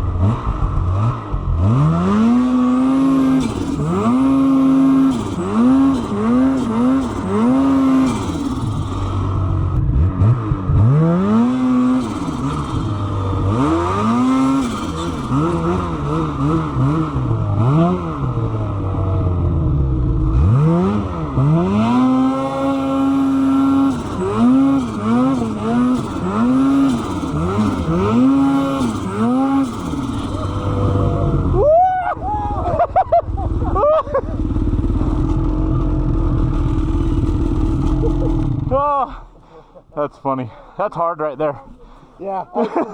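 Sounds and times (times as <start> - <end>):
snowmobile engine revving: 0.0 - 39.3.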